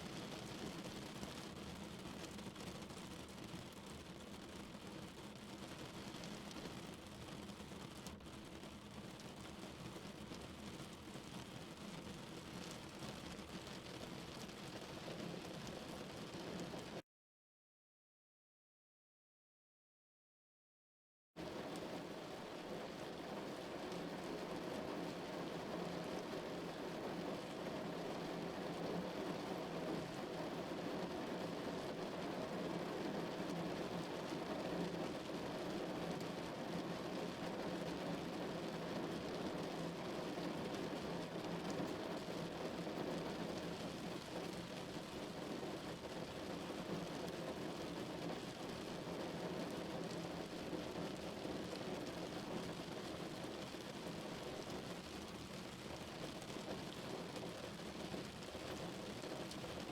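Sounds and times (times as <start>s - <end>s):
rain on a car roof: 0.0s - 17.0s, 21.4s - 59.9s.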